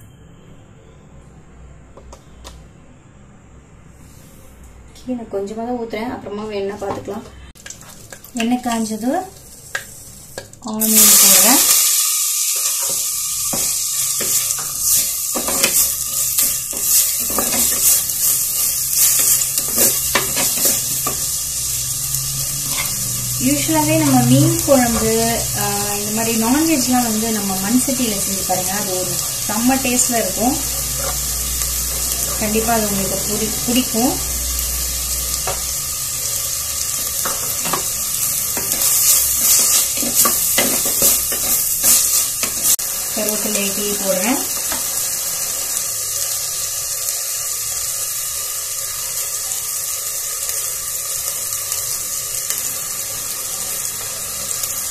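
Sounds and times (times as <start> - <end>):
onions sizzling in oil: 7.6 - 54.9.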